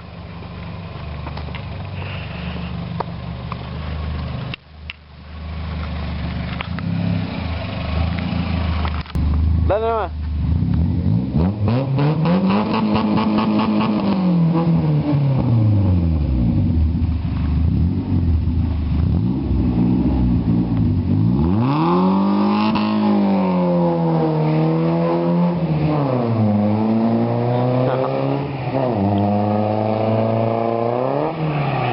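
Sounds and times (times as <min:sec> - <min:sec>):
car engine revving: 0:05.3 - 0:31.9.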